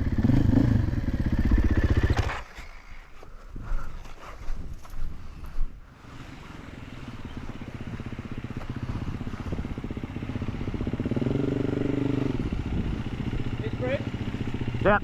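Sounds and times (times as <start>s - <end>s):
dirt bike engine approaching: 0.0s - 3.2s, 4.5s - 15.0s.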